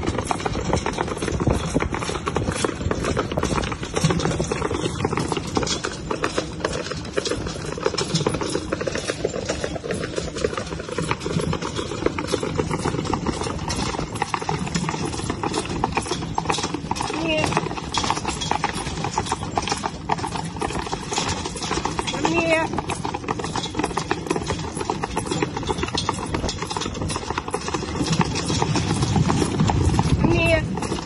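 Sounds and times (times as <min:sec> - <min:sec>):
carriage rattling over ground: 0:00.0 - 0:31.0
hoofbeats on dirt track: 0:00.0 - 0:31.0.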